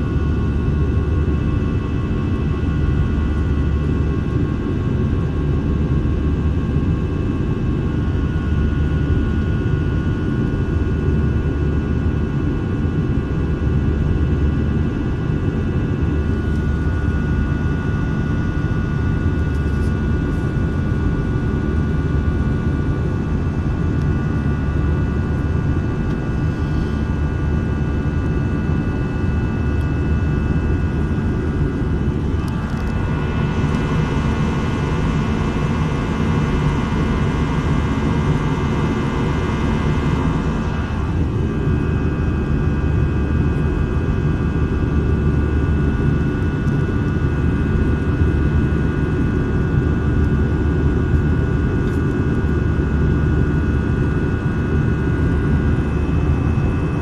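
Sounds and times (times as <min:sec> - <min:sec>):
jet engines roaring in cabin: 0:00.0 - 0:57.0.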